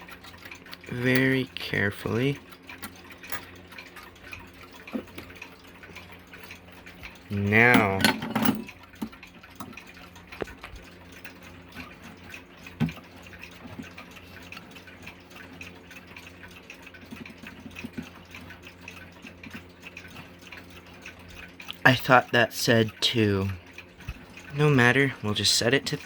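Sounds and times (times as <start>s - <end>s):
alarm clock ticking: 0.0s - 26.0s
clock handling clicks and knocks: 0.0s - 26.0s.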